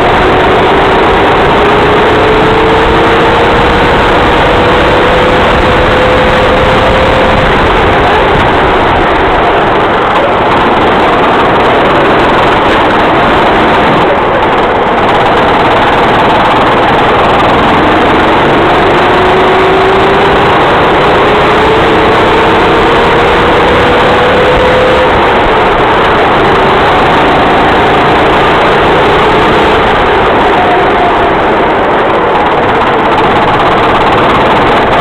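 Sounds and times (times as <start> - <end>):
racing kart engine: 0.0 - 35.0.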